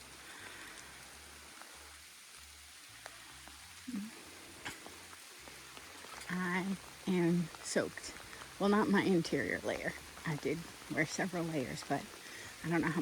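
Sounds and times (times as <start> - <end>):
drops ticking: 0.0 - 13.0
light rain in forest: 0.0 - 13.0.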